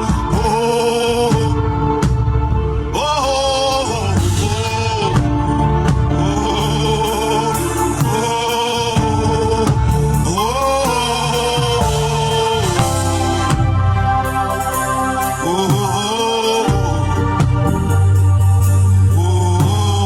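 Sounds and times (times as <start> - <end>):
steady bass accompaniment: 0.0 - 20.0
voices singing gospel: 0.0 - 20.0.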